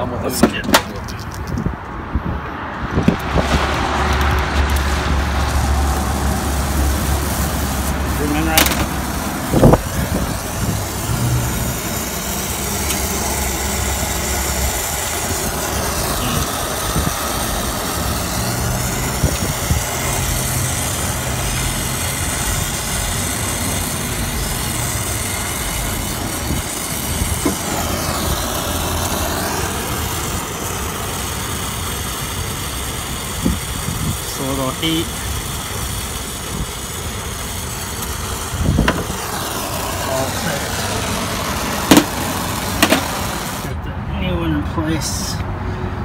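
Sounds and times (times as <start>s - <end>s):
torch flame hissing: 2.8s - 43.8s.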